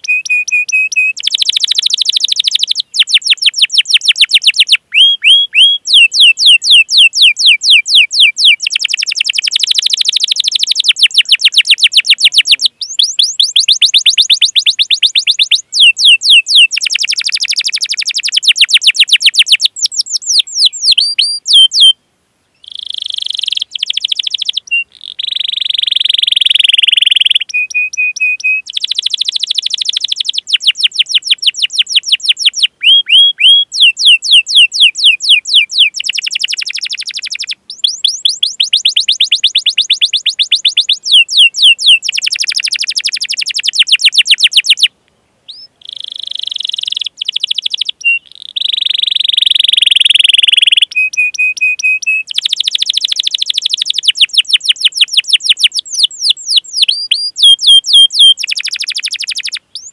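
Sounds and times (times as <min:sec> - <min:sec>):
canary singing trills: 0:00.0 - 0:22.0, 0:22.6 - 0:44.9, 0:45.5 - 0:59.9.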